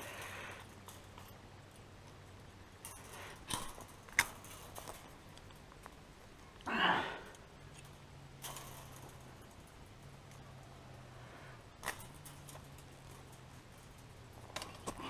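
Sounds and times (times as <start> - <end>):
fence wire clicks and scrapes: 0.0 - 15.0.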